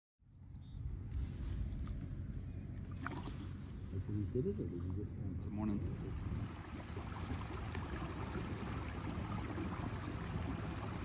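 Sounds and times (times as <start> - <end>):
water rushing along hull: 1.2 - 11.0.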